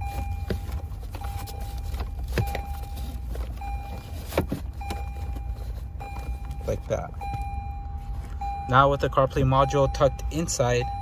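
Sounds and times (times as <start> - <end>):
car warning chime beeping: 0.0 - 11.0.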